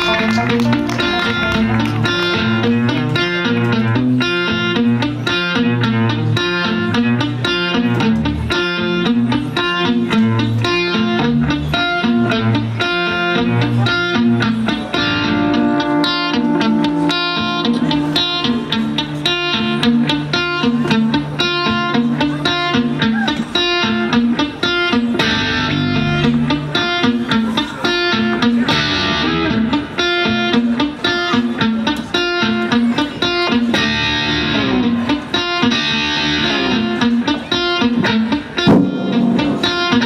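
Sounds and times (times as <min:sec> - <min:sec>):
electric guitar playing: 0:00.0 - 0:40.0.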